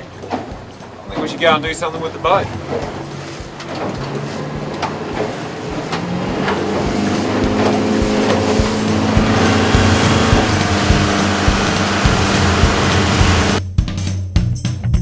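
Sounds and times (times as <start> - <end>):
hull knocking on waves: 0.0 - 13.6
outboard motor running: 0.0 - 13.6
water rushing: 0.0 - 13.6.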